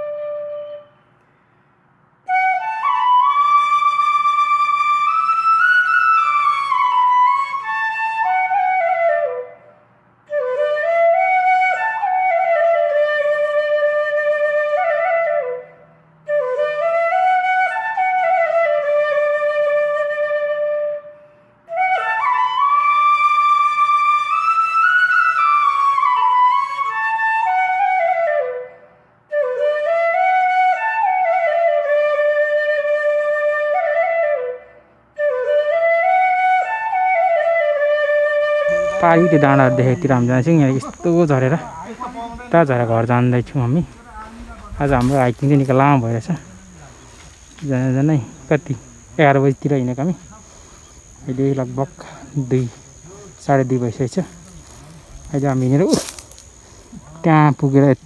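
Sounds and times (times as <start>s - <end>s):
slow solo flute melody: 0.0s - 58.0s.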